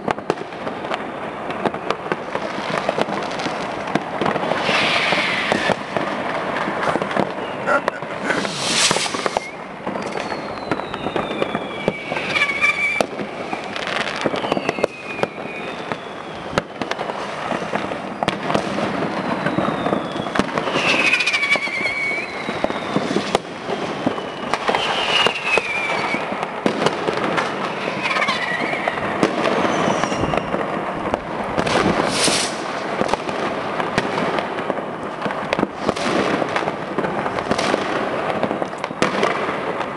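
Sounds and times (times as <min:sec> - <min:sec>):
fireworks crackling and banging: 0:00.0 - 0:39.9
whistling rockets: 0:00.0 - 0:39.9.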